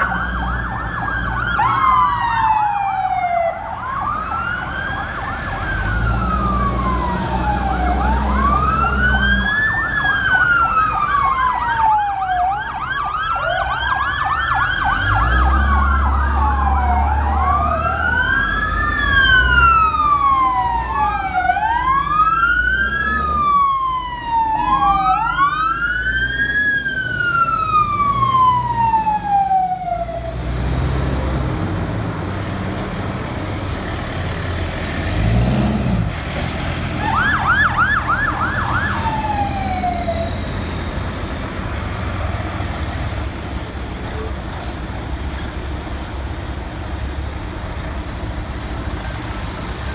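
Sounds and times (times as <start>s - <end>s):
fire engine sirens wailing: 0.0s - 49.9s
truck engines rumbling: 0.0s - 49.9s.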